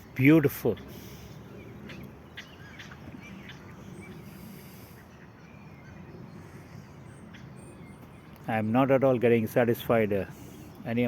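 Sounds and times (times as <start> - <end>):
faint bird calls: 0.0 - 8.6, 10.2 - 11.0.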